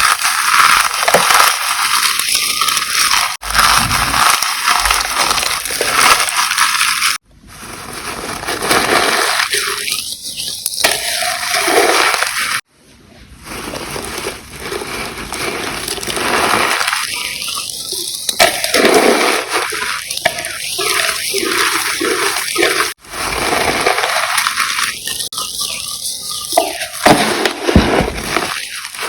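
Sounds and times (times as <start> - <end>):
chalk being crushed: 0.0 - 12.7, 13.4 - 29.0.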